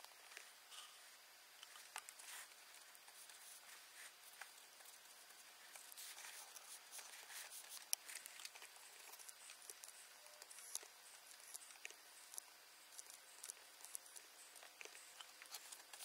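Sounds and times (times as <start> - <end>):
small clicks and rustles: 1.6 - 16.0.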